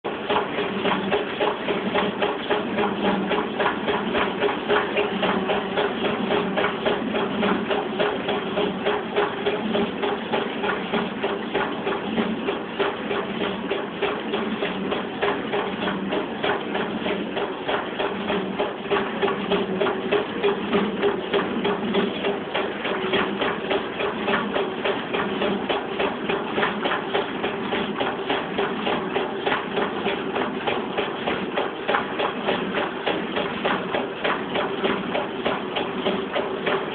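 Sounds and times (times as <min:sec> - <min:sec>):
rapid clatter of grain feed: 0:00.1 - 0:36.9.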